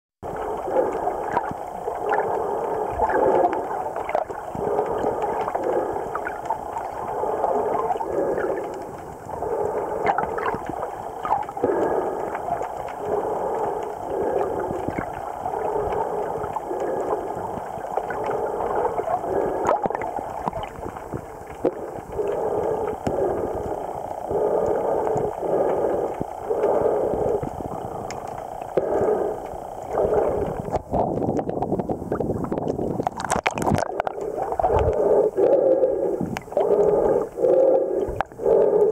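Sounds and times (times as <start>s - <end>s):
faint clicks: 0.2s - 38.9s
underwater gurgling and sloshing: 0.2s - 38.9s.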